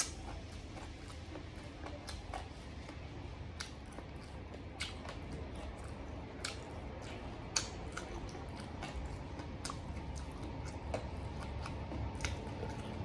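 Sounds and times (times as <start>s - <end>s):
low steady hum: 0.0s - 13.0s
person chewing wetly: 0.0s - 13.0s.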